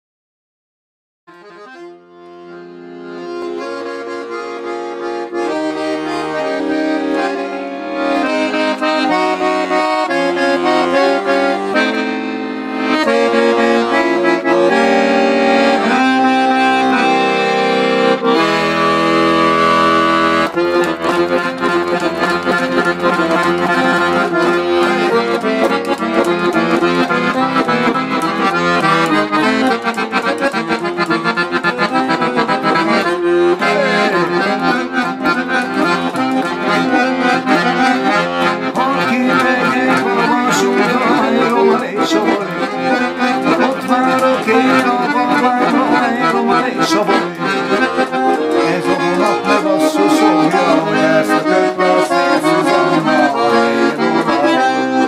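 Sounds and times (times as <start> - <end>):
solo accordion playing a tune: 1.3 - 55.0.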